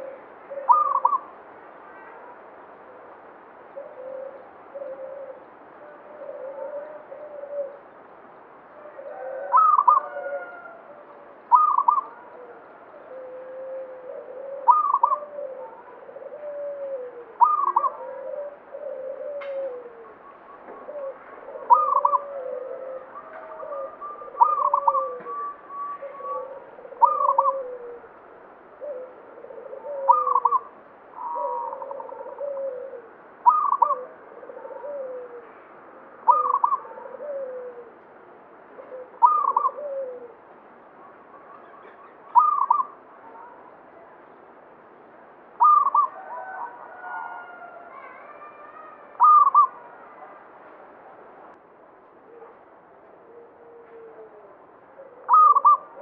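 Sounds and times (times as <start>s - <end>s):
dove cooing: 0.0s - 1.4s, 3.7s - 7.9s, 8.7s - 35.6s, 36.2s - 38.1s, 38.7s - 43.7s, 45.6s - 49.9s, 52.2s - 56.0s.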